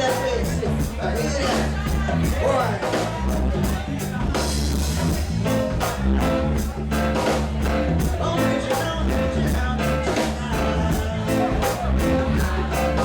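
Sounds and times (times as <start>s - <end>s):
bass line: 0.0s - 13.0s
drum beat: 0.0s - 13.0s
live reggae band: 0.0s - 13.0s.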